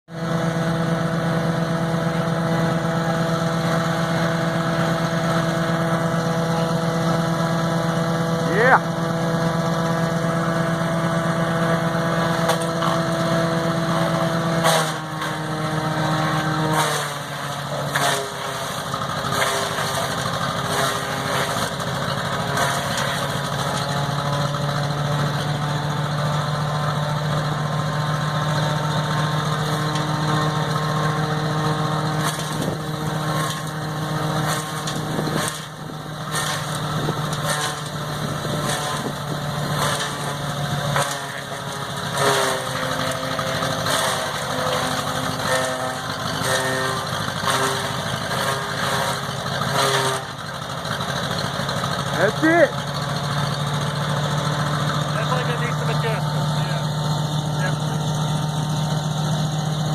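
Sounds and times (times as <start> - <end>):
wood chipper engine: 0.1 - 59.9.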